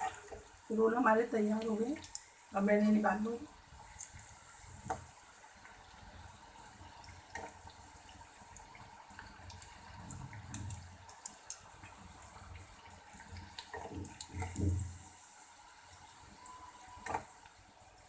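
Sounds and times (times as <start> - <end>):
hot oil sizzling and crackling: 0.0 - 18.0.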